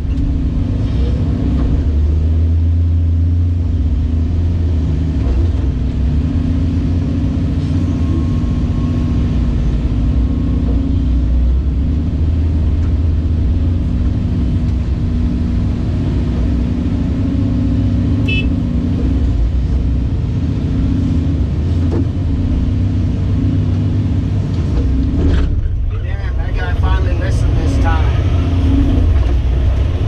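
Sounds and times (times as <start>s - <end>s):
excavator diesel engine rumbling: 0.0s - 30.0s.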